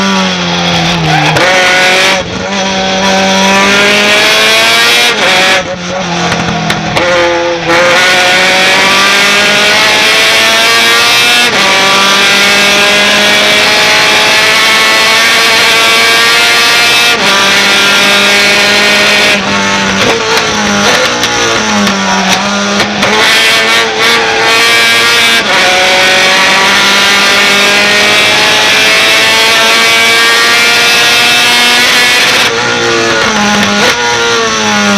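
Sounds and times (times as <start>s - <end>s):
truck engine accelerating hard: 0.0s - 34.9s.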